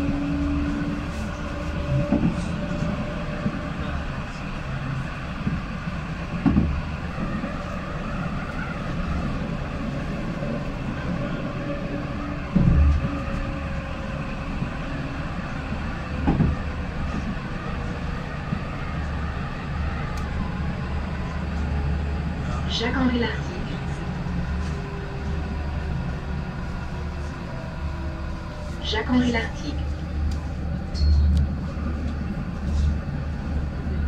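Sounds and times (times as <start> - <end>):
tram wheels rumbling on rail: 0.0 - 34.0.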